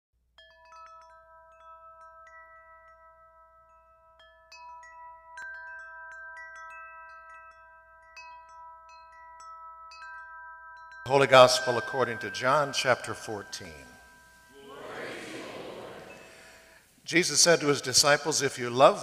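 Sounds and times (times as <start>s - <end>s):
wind chimes ringing: 0.4s - 16.9s.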